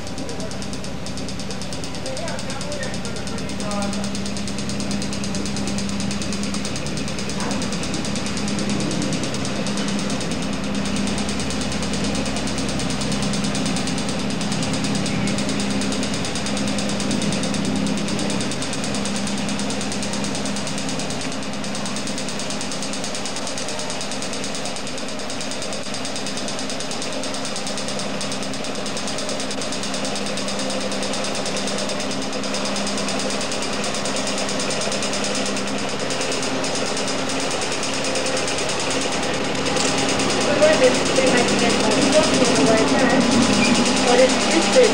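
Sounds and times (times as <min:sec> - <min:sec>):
diesel tram engine running: 0:00.0 - 0:44.9.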